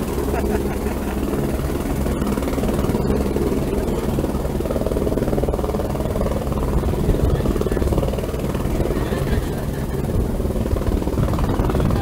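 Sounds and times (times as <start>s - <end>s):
helicopter turbine and rotor: 0.0s - 12.0s.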